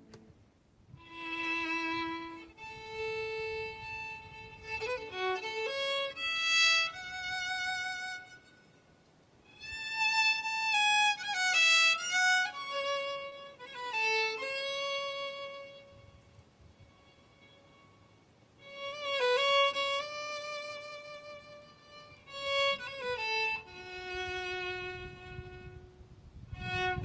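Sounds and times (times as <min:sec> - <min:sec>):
fiddle melody: 0:00.0 - 0:27.0.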